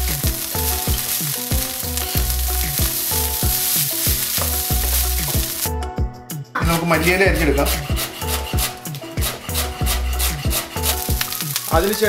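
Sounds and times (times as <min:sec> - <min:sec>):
frying hiss: 0:00.0 - 0:05.7, 0:07.6 - 0:12.0
spatula stirring rice in a wok: 0:00.0 - 0:05.7, 0:08.0 - 0:12.0
background music with drum beat: 0:00.0 - 0:12.0.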